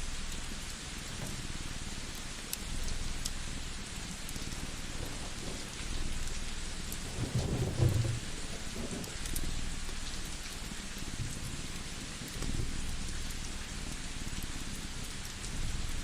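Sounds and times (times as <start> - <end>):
rain hiss: 0.0 - 16.0
wood fire crackling: 0.1 - 15.6.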